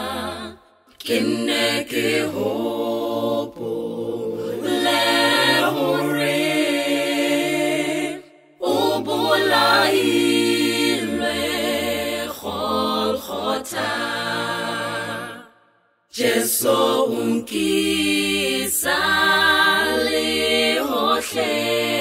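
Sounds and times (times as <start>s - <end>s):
a cappella group singing in harmony: 0.0s - 22.0s.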